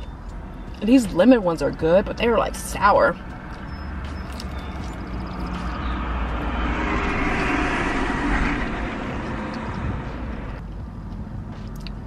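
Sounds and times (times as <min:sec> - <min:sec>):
vehicle passing: 0:00.0 - 0:11.6.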